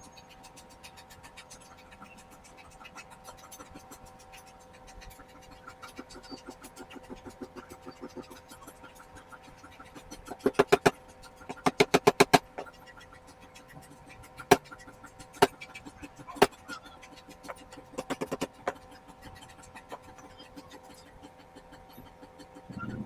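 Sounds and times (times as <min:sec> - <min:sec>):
sharp taps: 0:00.4 - 0:22.9
steady hum: 0:03.1 - 0:23.0.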